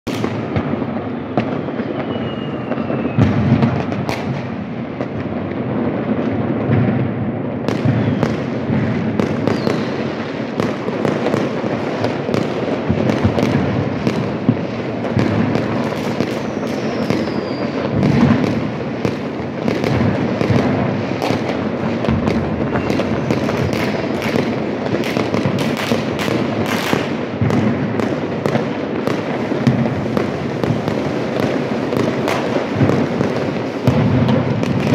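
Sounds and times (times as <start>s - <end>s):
firecrackers crackling: 0.0s - 34.9s
firework whistles: 0.1s - 4.6s, 7.7s - 34.9s
firework booms: 0.1s - 34.9s.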